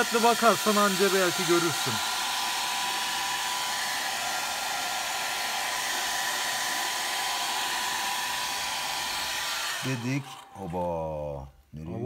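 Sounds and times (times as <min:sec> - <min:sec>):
hair dryer blowing: 0:00.0 - 0:10.6.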